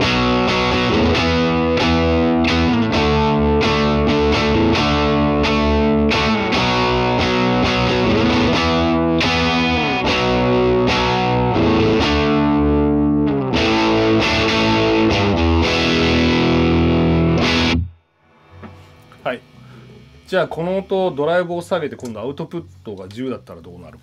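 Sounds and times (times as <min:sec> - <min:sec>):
distorted electric guitar: 0:00.0 - 0:22.3.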